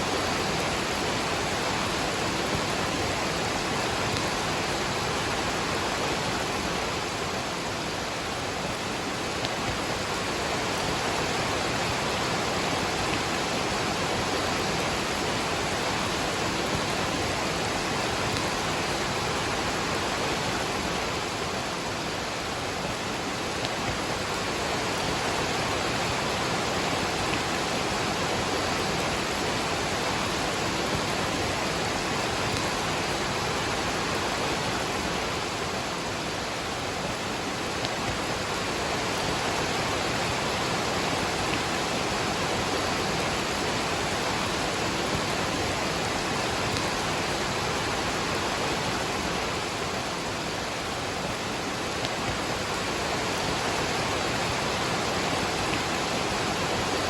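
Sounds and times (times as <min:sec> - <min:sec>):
rain falling: 0:00.0 - 0:57.0
waterfall rushing: 0:00.0 - 0:57.0.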